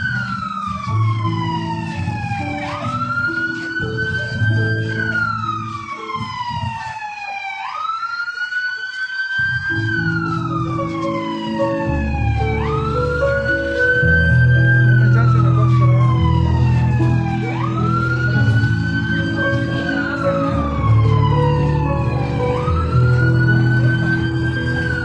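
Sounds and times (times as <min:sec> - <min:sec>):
music with low sustained notes: 0:00.0 - 0:07.2, 0:09.7 - 0:25.0
siren wailing: 0:00.0 - 0:25.0.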